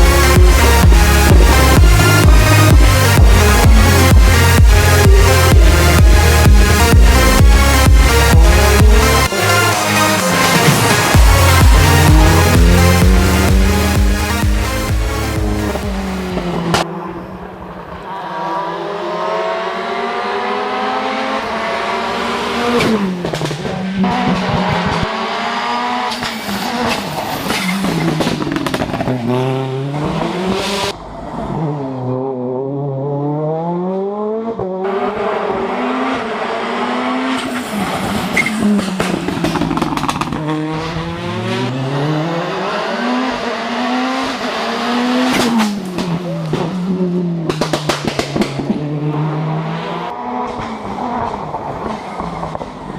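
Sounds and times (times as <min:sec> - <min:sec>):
rally car engine at race pace: 0:00.0 - 0:52.9.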